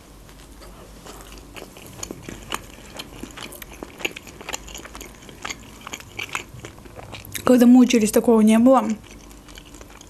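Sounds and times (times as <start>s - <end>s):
bread crust crunching while chewing: 0.2s - 7.5s, 8.8s - 10.0s.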